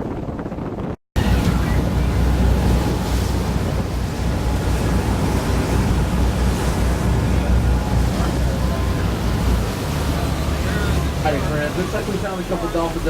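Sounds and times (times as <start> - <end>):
low rumble: 0.0 - 13.0
water rushing past boat: 0.0 - 13.0
wind buffeting microphone: 0.0 - 13.0.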